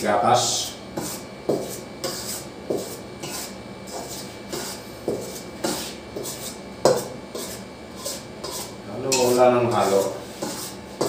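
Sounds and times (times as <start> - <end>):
metal spatula scraping flour in pan: 1.0 - 11.0.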